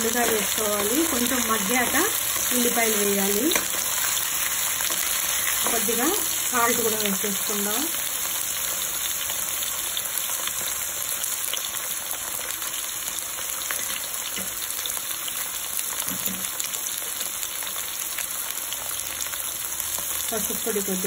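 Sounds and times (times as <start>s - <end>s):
vegetables frying in hot oil: 0.0s - 21.0s.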